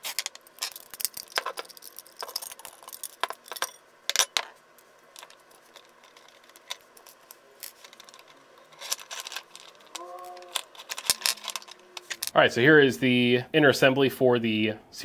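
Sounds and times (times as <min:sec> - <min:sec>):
sharp clicks and metallic clinks: 0:00.0 - 0:12.4.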